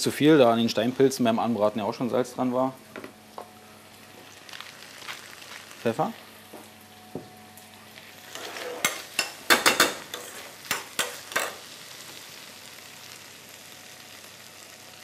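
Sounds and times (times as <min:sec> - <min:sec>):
soft sizzle from pan: 0:00.0 - 0:15.0.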